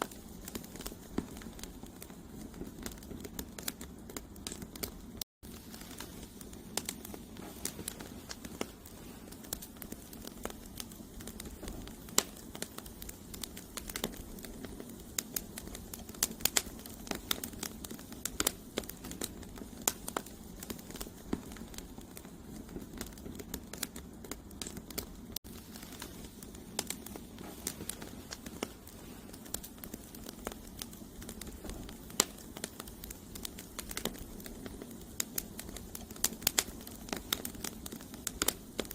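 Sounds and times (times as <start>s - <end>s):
logs crackling and popping: 0.0s - 38.9s
low steady flames: 0.0s - 38.9s.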